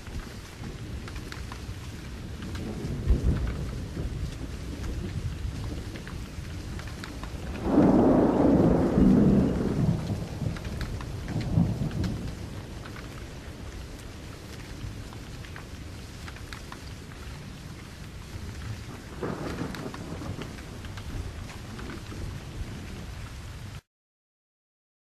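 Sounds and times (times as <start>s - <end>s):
steady rain falling: 0.0s - 23.9s
thunder rolling: 2.0s - 15.8s, 17.0s - 23.8s.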